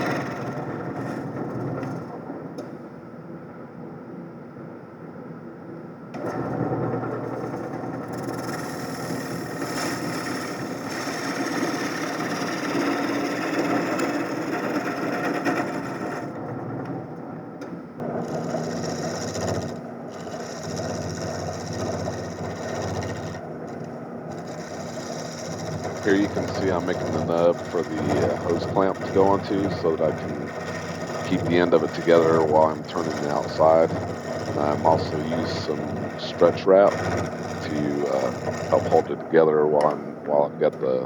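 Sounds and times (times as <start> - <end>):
wood lathe cutting: 0.0 - 2.2, 6.2 - 17.0, 18.0 - 41.0.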